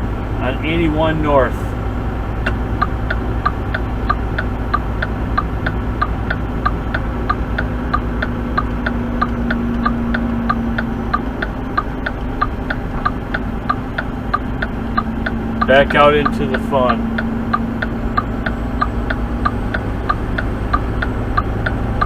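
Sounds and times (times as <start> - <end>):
idling engine hum: 0.0 - 22.0
indicator flasher ticking: 2.4 - 22.0.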